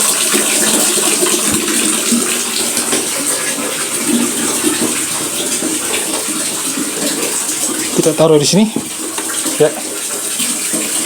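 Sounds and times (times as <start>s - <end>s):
water running from tap: 0.0s - 11.0s.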